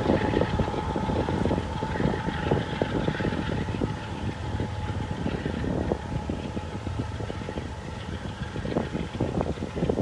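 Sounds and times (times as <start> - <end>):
distant diesel locomotive rumble: 0.0 - 10.0
wind buffeting microphone: 0.0 - 10.0.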